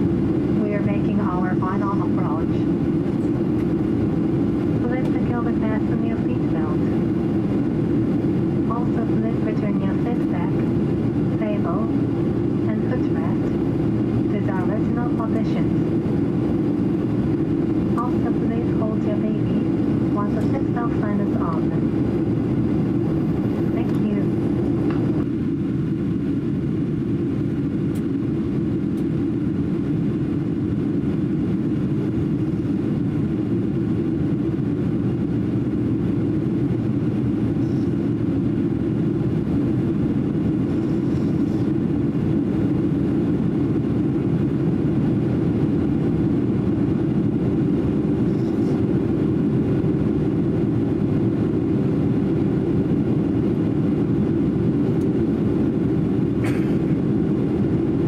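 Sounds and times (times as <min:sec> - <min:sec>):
airliner cabin engine drone: 0:00.0 - 0:58.0.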